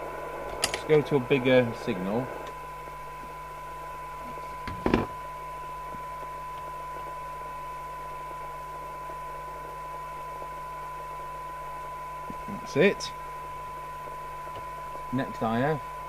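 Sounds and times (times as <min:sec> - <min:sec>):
low hum: 0:00.0 - 0:16.0
steady test tone: 0:00.0 - 0:16.0.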